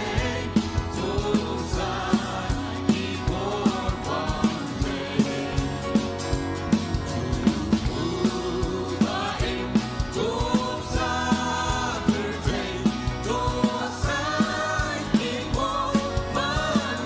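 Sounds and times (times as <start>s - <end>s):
group singing gospel song: 0.0s - 17.0s
instrumental accompaniment with beat: 0.0s - 17.0s.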